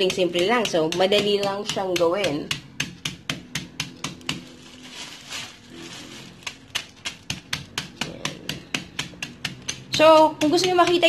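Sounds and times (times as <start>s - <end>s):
mallet tapping cookies in plastic bag: 0.0s - 11.0s.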